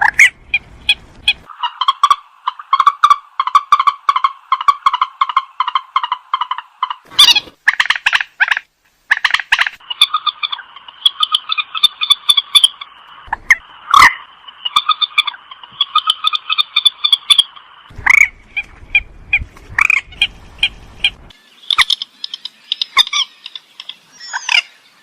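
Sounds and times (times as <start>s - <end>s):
swamphen rapid calls: 0.0s - 24.8s.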